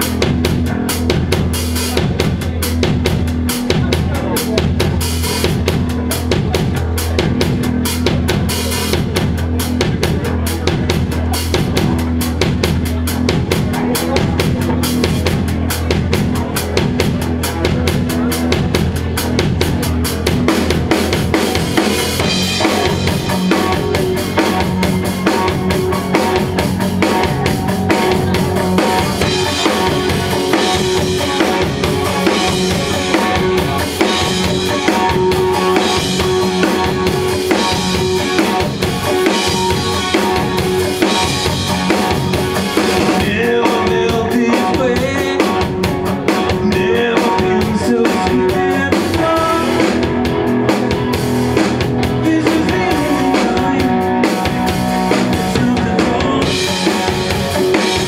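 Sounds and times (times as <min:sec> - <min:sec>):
drum kit beat: 0:00.0 - 0:58.0
electric bass: 0:00.0 - 0:58.0
electric guitar chords: 0:00.0 - 0:58.0.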